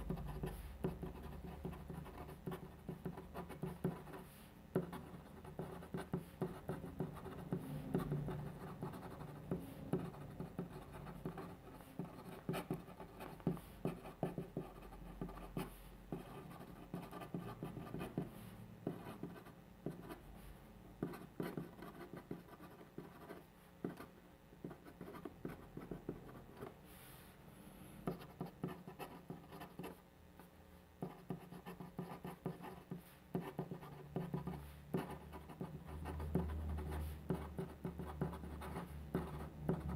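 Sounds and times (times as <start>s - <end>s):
pen scratching on paper: 0.0s - 20.2s, 21.0s - 26.7s, 28.0s - 30.0s, 31.0s - 39.9s.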